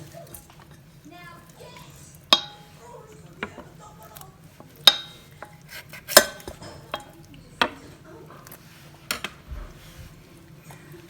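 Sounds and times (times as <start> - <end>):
dishes and utensils clinking: 0.0 - 11.0.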